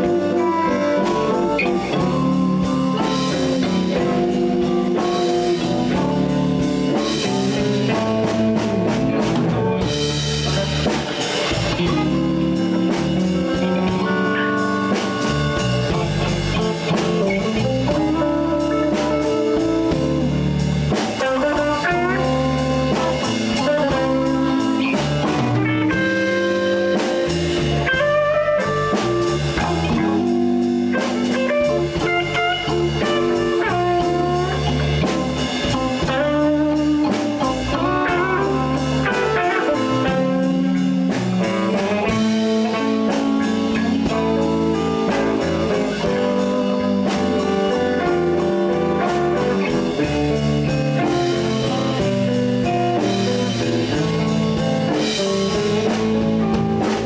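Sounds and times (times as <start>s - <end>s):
blues band playing: 0.0s - 57.0s
electric guitar lead notes: 0.0s - 57.0s.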